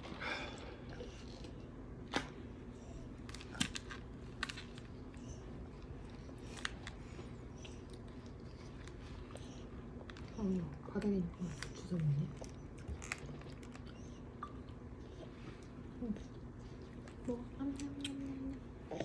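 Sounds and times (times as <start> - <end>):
quiet eating sounds: 0.0 - 19.0
steady low hum: 0.0 - 19.0.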